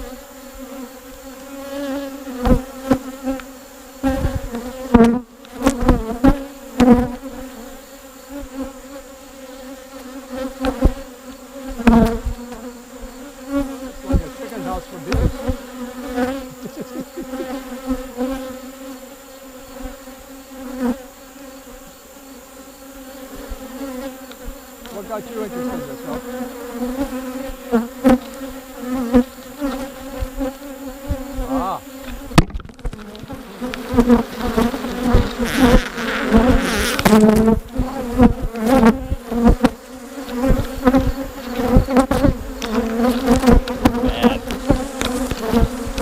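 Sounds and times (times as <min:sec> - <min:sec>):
honeybees buzzing: 0:00.0 - 0:46.0.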